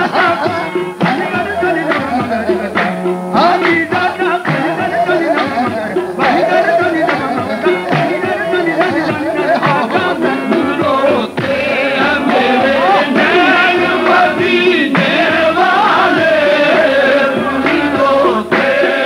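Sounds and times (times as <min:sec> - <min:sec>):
instrumental accompaniment: 0:00.0 - 0:19.0
man singing ornamented melody: 0:00.0 - 0:19.0.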